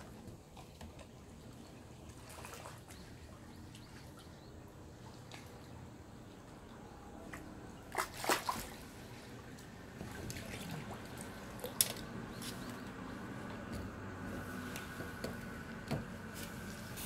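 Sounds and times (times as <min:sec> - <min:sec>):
small water splashes: 0:00.0 - 0:17.0
water lapping: 0:00.0 - 0:17.0.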